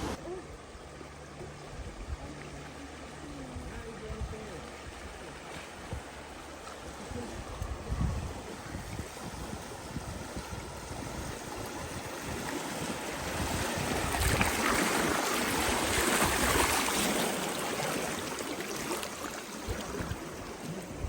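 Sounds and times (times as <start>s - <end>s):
river water rushing: 0.0s - 1.6s, 2.4s - 21.0s.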